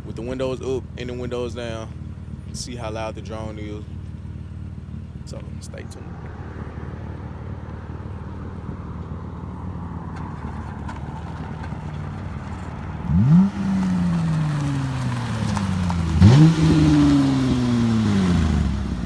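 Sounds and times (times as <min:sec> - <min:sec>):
car exhaust idling and revving: 0:00.0 - 0:19.0.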